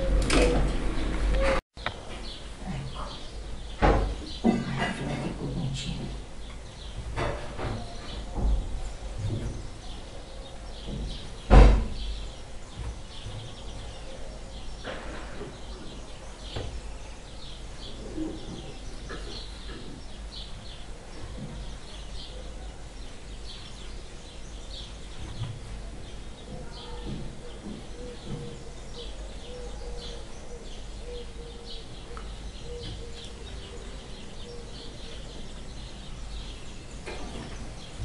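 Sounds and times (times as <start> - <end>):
small birds chirping: 1.0 - 38.0.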